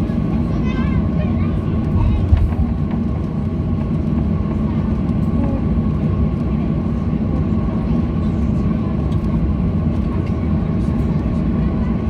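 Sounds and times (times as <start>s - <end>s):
aircraft cabin drone: 0.0s - 12.0s.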